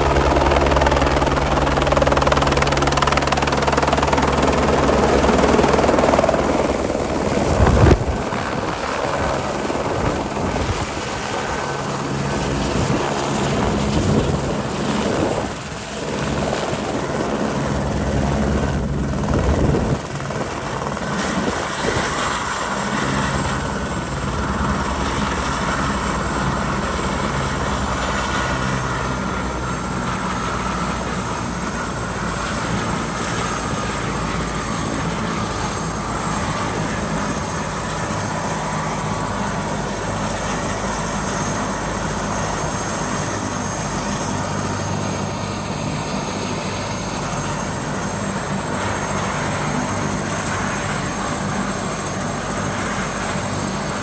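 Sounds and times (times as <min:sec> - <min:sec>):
helicopter rotor beating: 0:00.0 - 0:54.0
turbine whine: 0:00.0 - 0:54.0.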